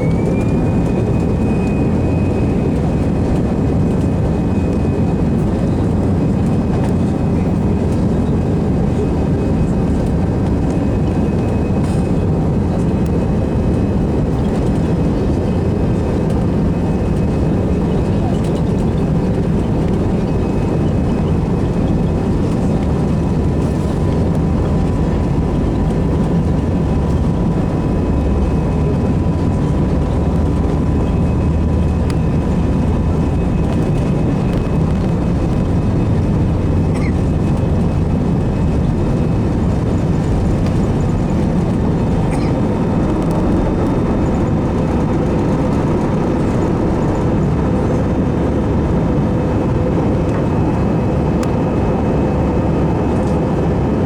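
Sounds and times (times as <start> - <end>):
jet airliner taking off: 0.0 - 54.0.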